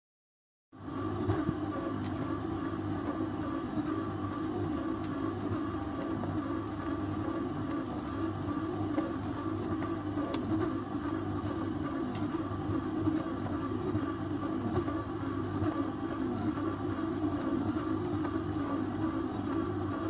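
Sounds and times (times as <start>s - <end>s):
stand mixer motor hum: 0.8s - 20.0s.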